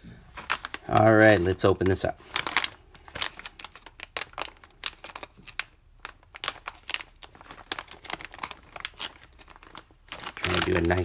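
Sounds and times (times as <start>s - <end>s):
plastic pouch crinkling: 0.3s - 11.0s.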